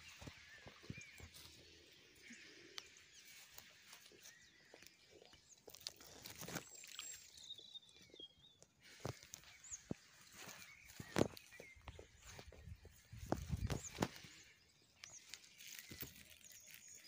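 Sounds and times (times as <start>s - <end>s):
grass and reeds rustling: 0.0s - 7.6s, 8.8s - 17.0s
distant bird chirps: 0.0s - 17.0s.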